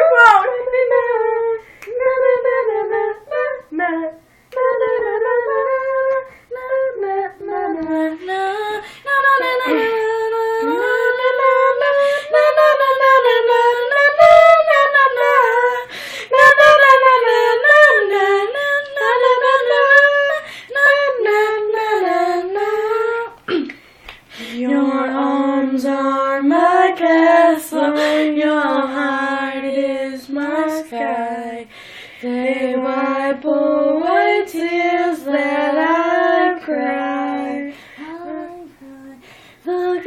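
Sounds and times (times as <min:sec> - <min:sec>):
girl singing unaccompanied: 0:00.0 - 0:23.6, 0:24.3 - 0:40.0.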